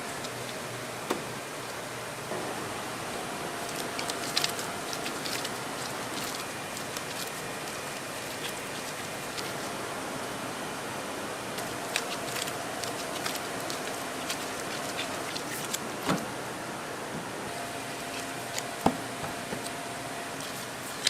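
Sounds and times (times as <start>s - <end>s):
faint hum: 0.0s - 21.0s
steady background noise: 0.0s - 21.0s.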